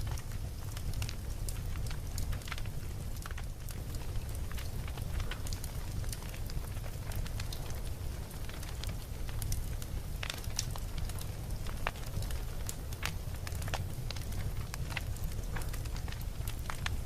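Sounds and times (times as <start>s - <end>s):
burning wood crackling and popping: 0.0s - 17.0s
campfire flames rumbling: 0.0s - 17.0s.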